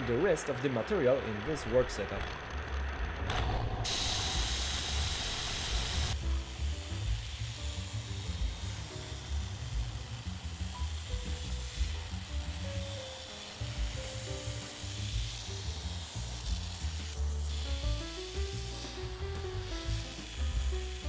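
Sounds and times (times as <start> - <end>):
milling machine cutting steel: 0.0 - 21.0.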